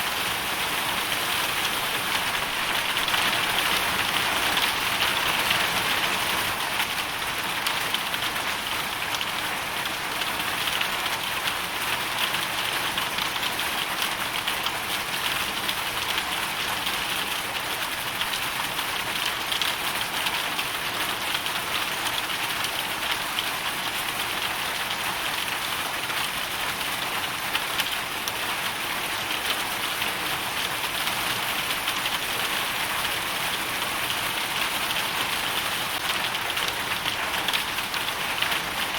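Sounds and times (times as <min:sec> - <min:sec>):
hailstones and rain pattering: 0:00.1 - 0:38.9.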